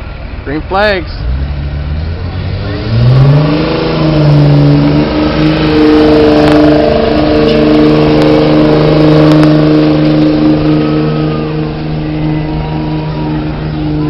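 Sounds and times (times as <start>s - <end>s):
diesel truck engine under heavy load: 0.0s - 14.0s.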